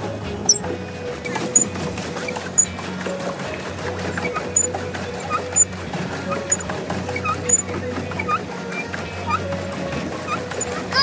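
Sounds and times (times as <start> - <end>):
background music sustained notes: 0.0 - 11.0.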